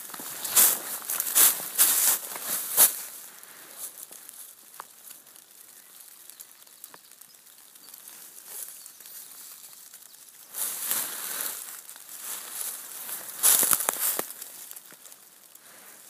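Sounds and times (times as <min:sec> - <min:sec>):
footsteps rustling through dry leaves: 0:00.0 - 0:16.0.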